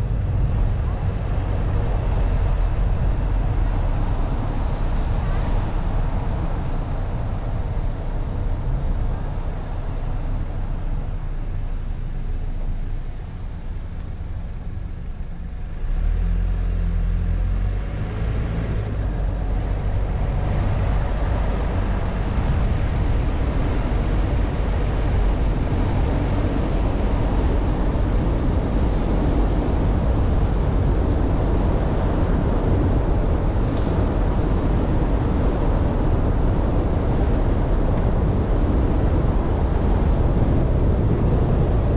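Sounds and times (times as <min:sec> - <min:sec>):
car engine and road rumble: 0:00.0 - 0:41.9
wind noise: 0:00.0 - 0:41.9.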